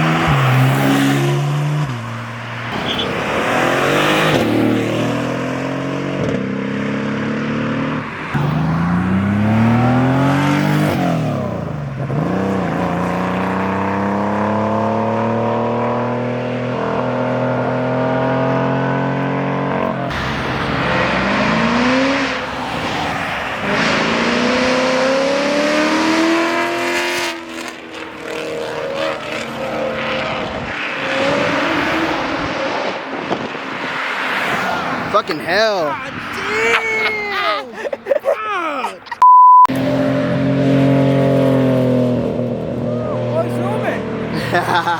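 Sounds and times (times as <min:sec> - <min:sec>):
sports car engine revving: 0:00.0 - 0:33.6, 0:39.7 - 0:44.9.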